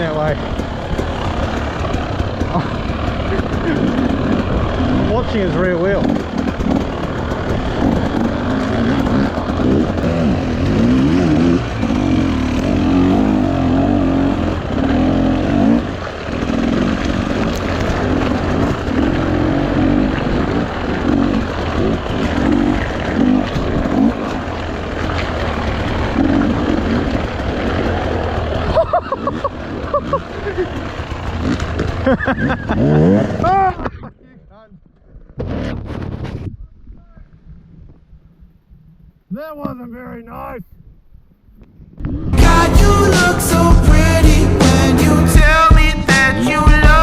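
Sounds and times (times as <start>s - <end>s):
off-road vehicle engine revving: 0.0s - 33.8s, 42.0s - 47.0s.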